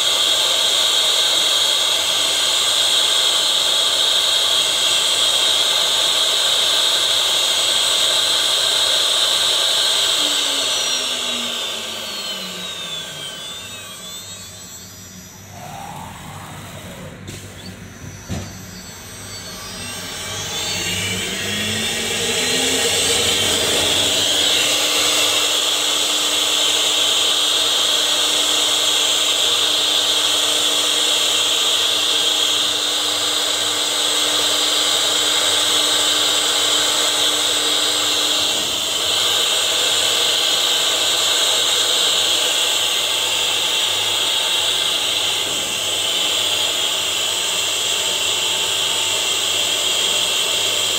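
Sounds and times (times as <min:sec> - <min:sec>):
router bit cutting wood: 0:00.0 - 0:50.9
router spindle whine: 0:00.0 - 0:50.9.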